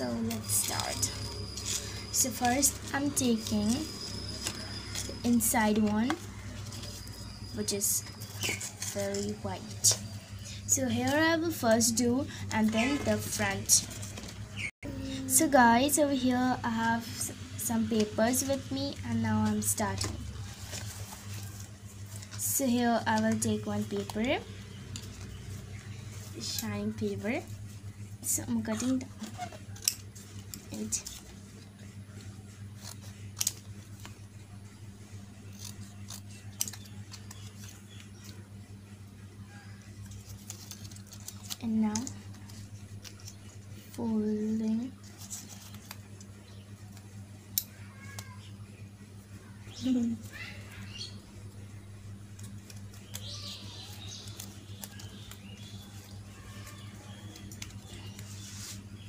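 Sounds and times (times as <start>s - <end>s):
scissors snipping paper: 0.0s - 14.4s, 17.7s - 27.5s, 28.4s - 38.4s, 39.9s - 48.5s, 52.3s - 59.0s
steady low hum: 0.0s - 59.0s.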